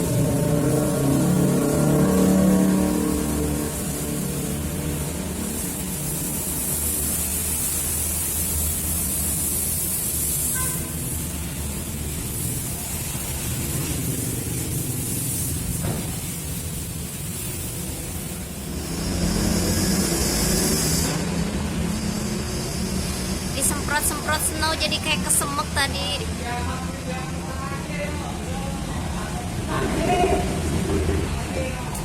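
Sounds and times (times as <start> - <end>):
spray gun hissing: 0.0 - 26.1.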